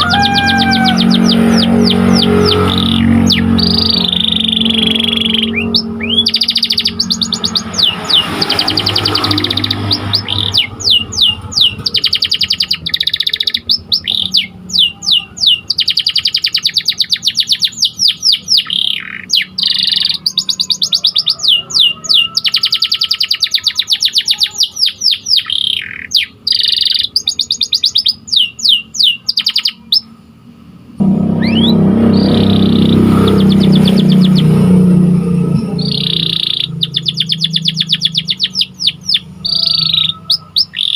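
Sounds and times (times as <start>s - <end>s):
canary singing trills: 0.0s - 30.3s, 31.0s - 40.9s.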